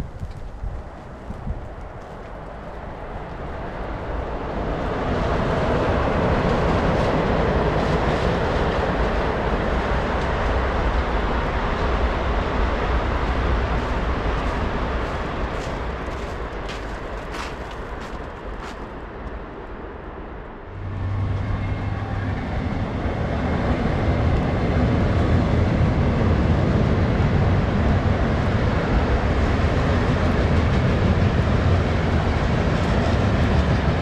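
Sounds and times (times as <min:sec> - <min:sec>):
train passing rumble: 0:00.0 - 0:34.0.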